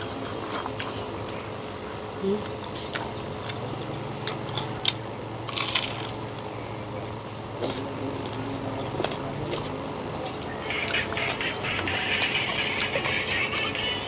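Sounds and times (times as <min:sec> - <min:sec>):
crunching and chewing: 0:00.0 - 0:14.0.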